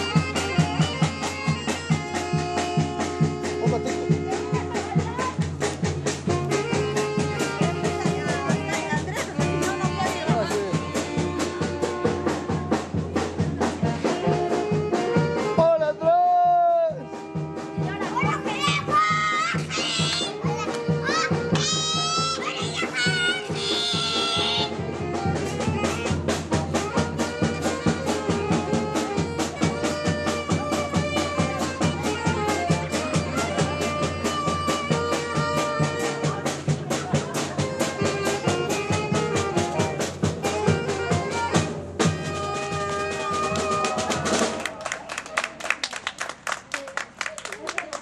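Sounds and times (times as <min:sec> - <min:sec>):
trumpets playing tune: 0:00.0 - 0:05.4, 0:06.0 - 0:13.0, 0:13.7 - 0:44.6
brass band music: 0:00.0 - 0:44.8
steady drum beat: 0:00.0 - 0:44.8.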